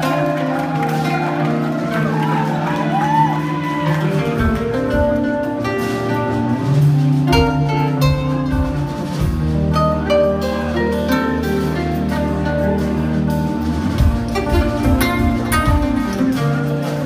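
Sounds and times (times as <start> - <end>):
bass guitar: 0.0 - 17.0.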